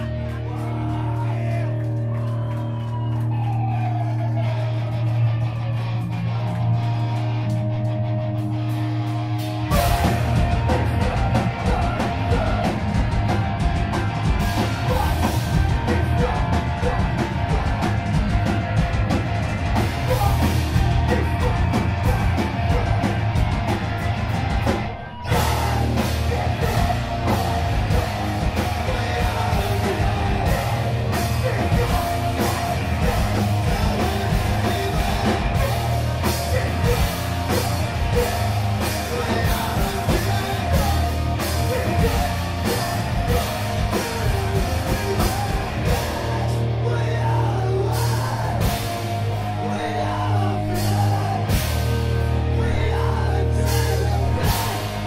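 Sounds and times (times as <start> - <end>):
singer yelling: 0.0 - 6.0, 9.6 - 55.0
bass guitar: 0.0 - 55.0
distorted guitars: 0.0 - 55.0
pounding drum kit: 0.0 - 55.0.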